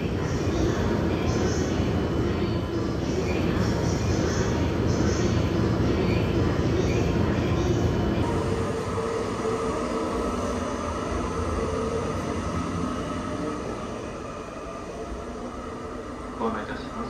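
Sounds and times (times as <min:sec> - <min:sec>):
train car rumble and hum: 0:00.0 - 0:17.0.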